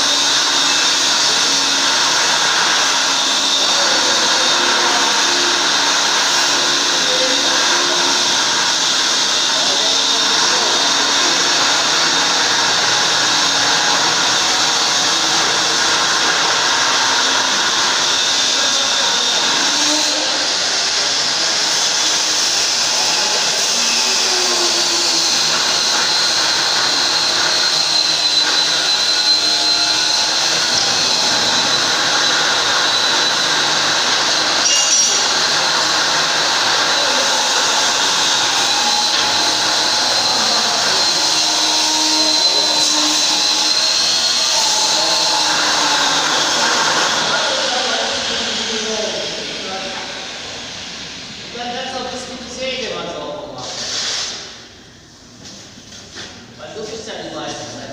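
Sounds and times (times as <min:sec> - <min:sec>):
power tool motor whining: 0:00.0 - 0:51.3.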